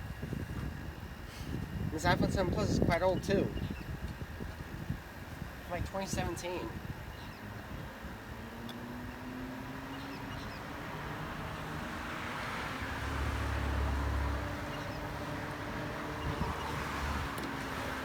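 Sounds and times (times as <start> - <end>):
outdoor background noise: 0.0 - 18.0
vehicle engine rumble: 0.0 - 18.0.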